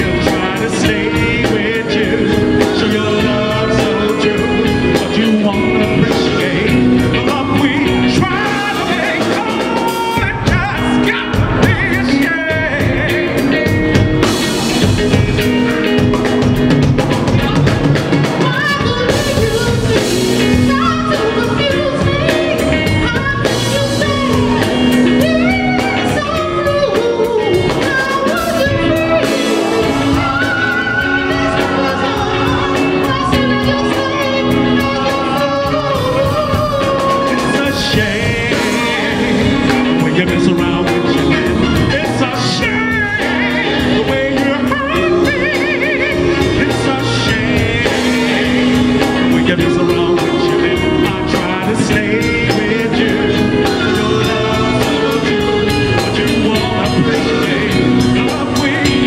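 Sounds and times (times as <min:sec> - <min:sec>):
group vocals: 0:00.0 - 0:59.0
live soul band playing: 0:00.0 - 0:59.0.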